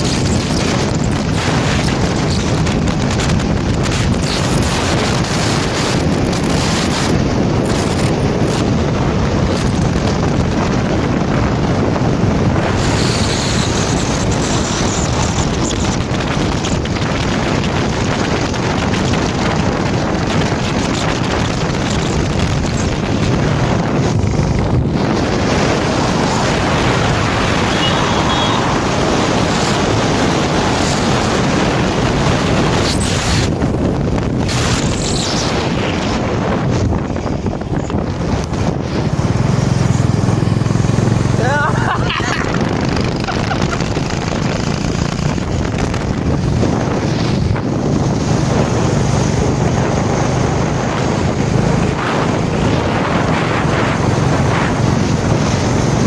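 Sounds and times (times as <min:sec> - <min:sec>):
motorcycle engine: 0:00.0 - 0:56.0
road noise: 0:00.0 - 0:56.0
wind on microphone: 0:00.0 - 0:56.0.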